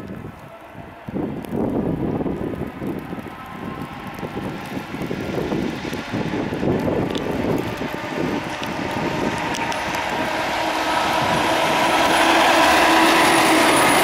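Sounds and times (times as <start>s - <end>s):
electric locomotive hum: 0.0s - 14.0s
wind noise on microphone: 0.0s - 14.0s.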